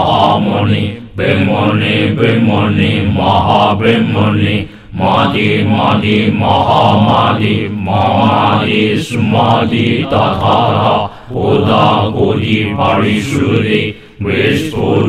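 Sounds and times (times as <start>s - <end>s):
low-pitched voice chanting: 0.0s - 15.0s.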